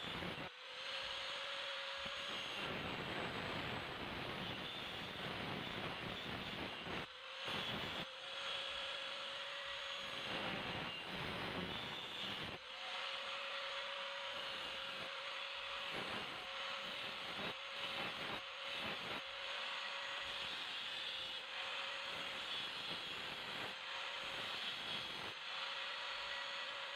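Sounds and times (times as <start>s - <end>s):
electric grinder grinding steel: 0.0s - 26.9s.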